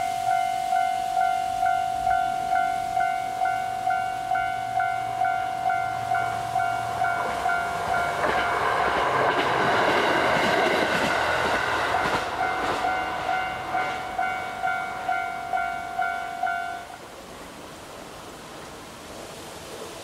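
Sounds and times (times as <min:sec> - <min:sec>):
diesel railcar rumble and wheel noise: 0:00.0 - 0:20.0.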